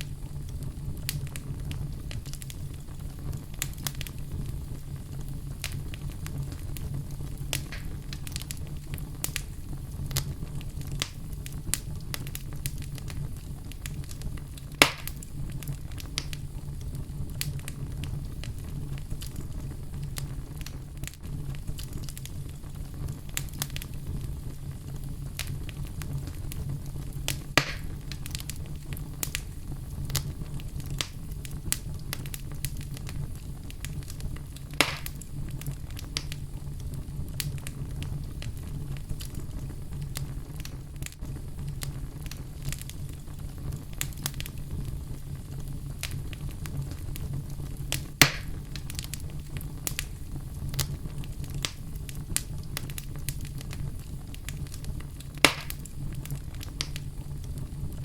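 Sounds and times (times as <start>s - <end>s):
fire crackling and popping: 0.0s - 58.0s
flames rushing: 0.0s - 58.0s.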